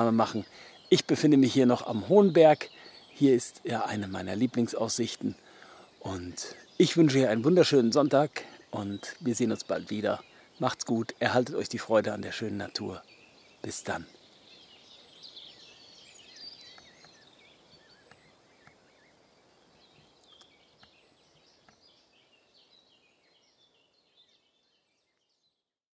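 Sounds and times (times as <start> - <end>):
songbirds chirping and trilling: 0.0 - 25.7.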